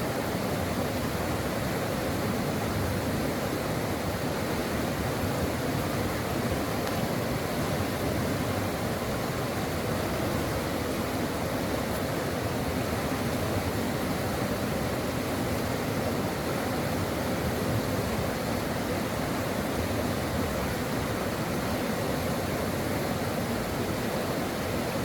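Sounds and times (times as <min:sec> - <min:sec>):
stream of water flowing: 0:00.0 - 0:25.0.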